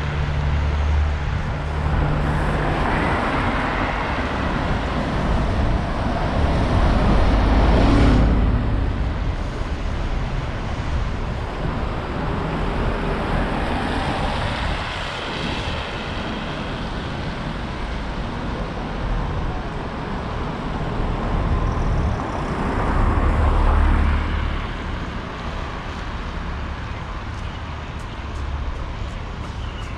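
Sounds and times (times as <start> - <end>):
passing cars: 0.0 - 29.9.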